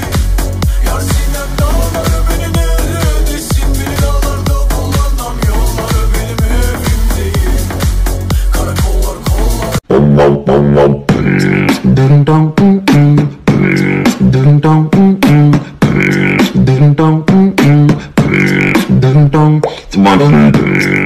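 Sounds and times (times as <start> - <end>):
looping background music with beat: 0.0 - 9.9, 10.9 - 21.0.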